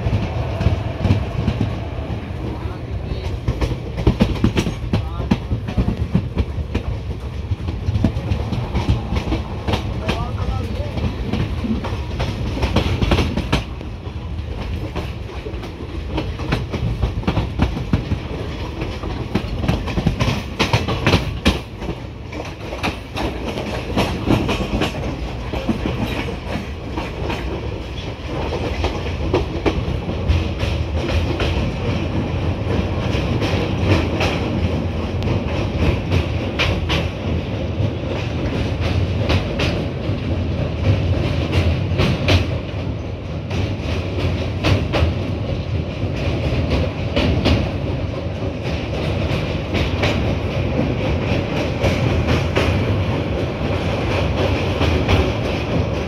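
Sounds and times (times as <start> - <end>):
train rumble: 0.0 - 56.0
wind: 0.0 - 56.0
wheels clicking over rail joints: 3.2 - 56.0.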